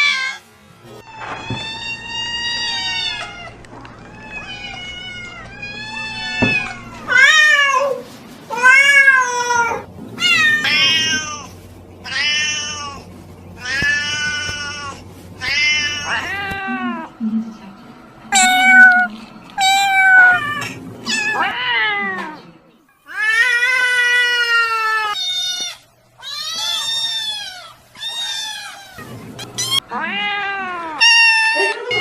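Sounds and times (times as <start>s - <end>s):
cats meowing: 1.0s - 17.1s, 18.3s - 32.0s.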